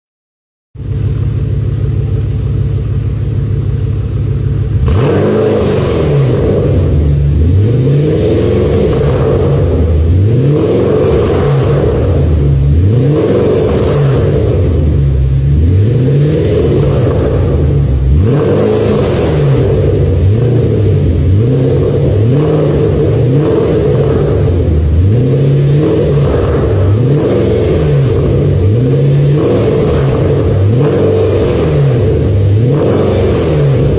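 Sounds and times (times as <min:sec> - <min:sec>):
car engine idling and revving: 0:00.8 - 0:33.9
exhaust crackles and pops: 0:00.8 - 0:33.9.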